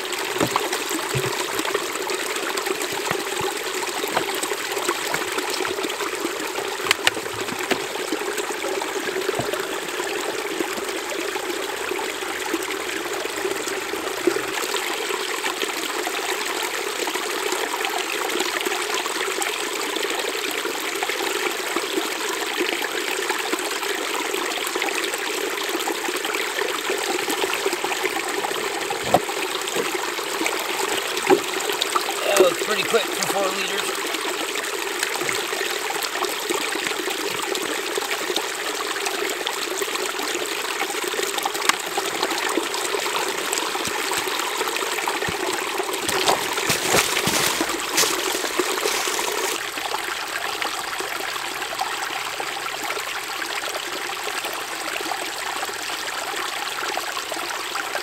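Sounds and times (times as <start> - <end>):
stream trickling over stones: 0.0 - 58.0.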